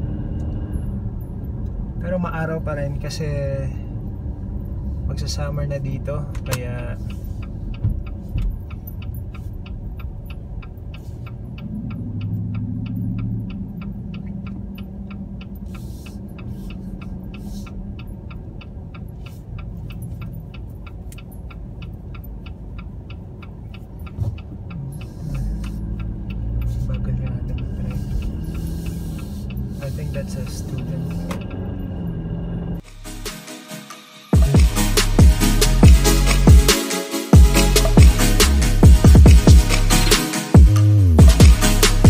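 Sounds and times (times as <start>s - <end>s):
turn signal ticking: 0.0s - 32.8s, 34.4s - 42.0s
car engine and road rumble: 0.0s - 33.2s, 37.4s - 42.0s.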